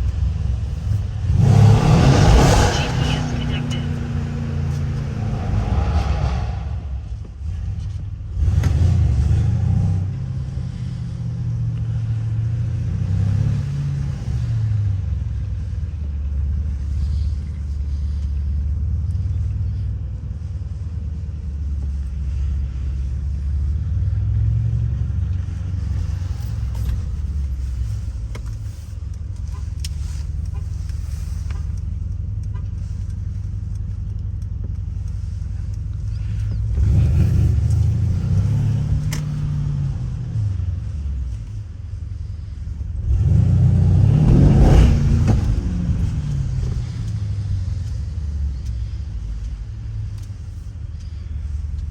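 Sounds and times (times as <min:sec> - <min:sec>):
car engine deep rumble: 0:00.0 - 0:51.9.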